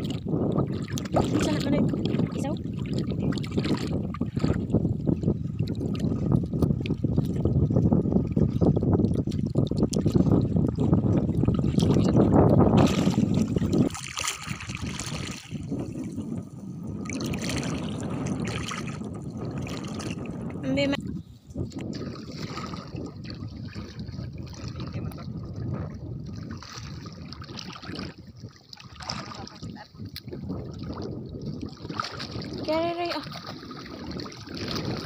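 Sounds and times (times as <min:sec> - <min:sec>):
sea water splashing and sloshing: 0:00.0 - 0:35.0.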